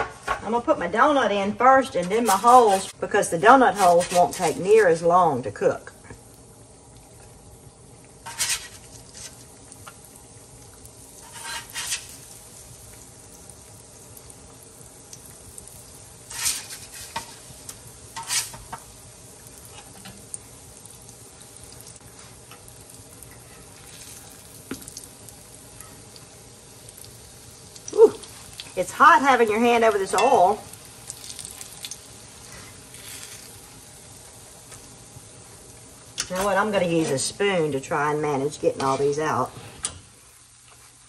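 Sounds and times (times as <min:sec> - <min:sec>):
dough sizzling in oil: 0:00.0 - 0:41.0
loud bursts of sizzling: 0:00.8 - 0:05.7, 0:06.4 - 0:41.0.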